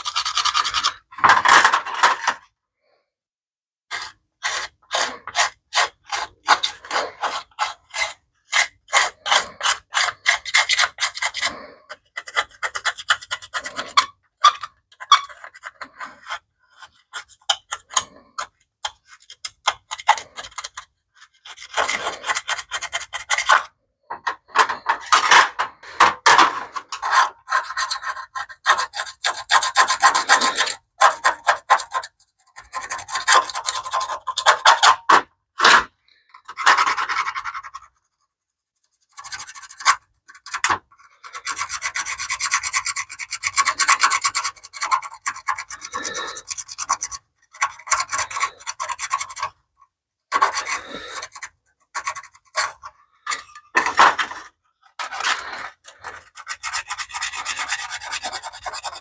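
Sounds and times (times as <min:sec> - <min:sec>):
hand tool scraping metal: 0:03.9 - 0:37.9, 0:39.1 - 0:49.6, 0:50.3 - 0:59.0.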